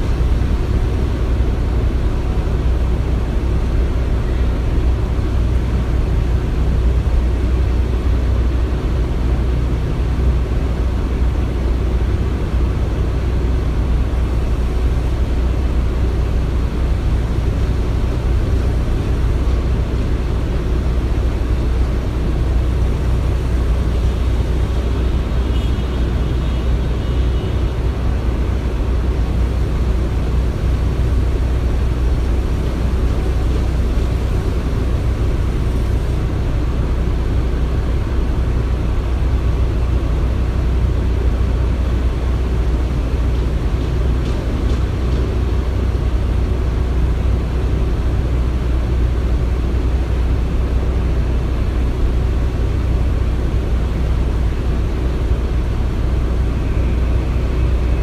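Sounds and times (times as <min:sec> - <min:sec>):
low rumble of machinery: 0:00.0 - 0:58.0.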